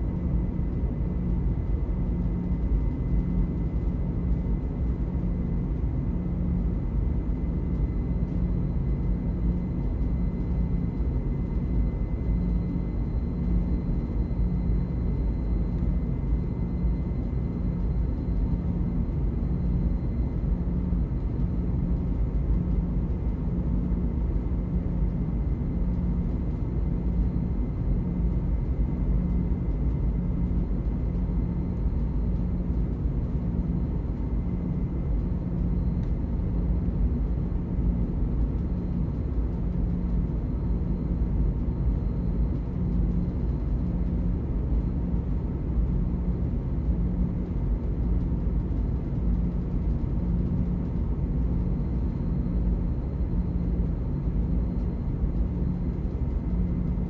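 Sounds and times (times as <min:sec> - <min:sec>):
faint high whine: 0:00.0 - 0:57.0
low hum: 0:00.0 - 0:57.0.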